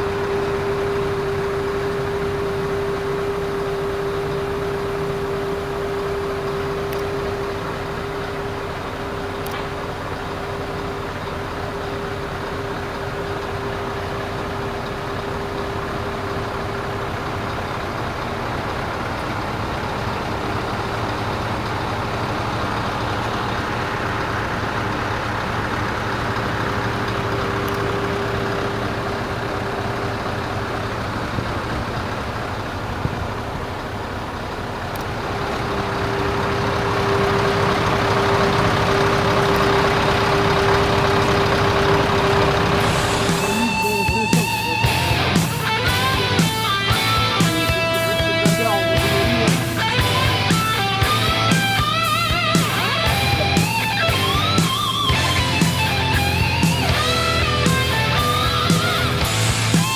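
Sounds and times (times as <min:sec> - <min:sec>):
diesel truck engine running: 0:00.0 - 0:59.9
steady whine: 0:00.0 - 0:59.9.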